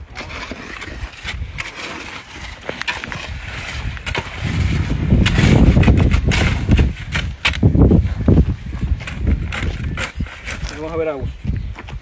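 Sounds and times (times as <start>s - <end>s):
shovel scraping gravel mix: 0.0s - 7.9s, 8.6s - 11.2s.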